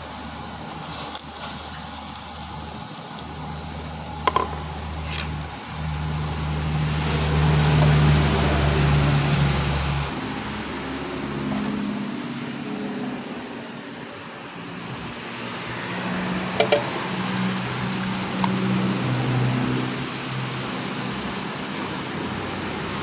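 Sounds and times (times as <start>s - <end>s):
pork sizzling: 0.0s - 12.9s, 14.8s - 23.0s.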